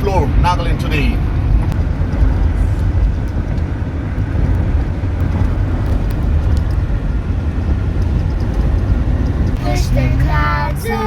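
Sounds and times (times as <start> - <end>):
moving car rumble: 0.0 - 11.0.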